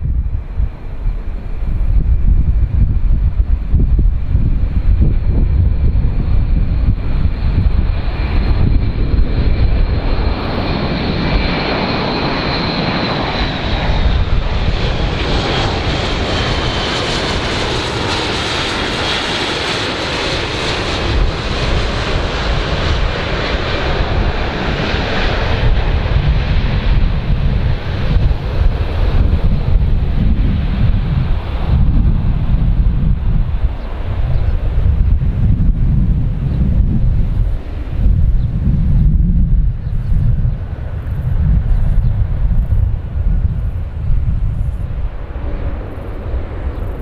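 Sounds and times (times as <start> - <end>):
turboprop aircraft flying past: 0.0 - 47.0
wind rumble on microphone: 0.0 - 47.0.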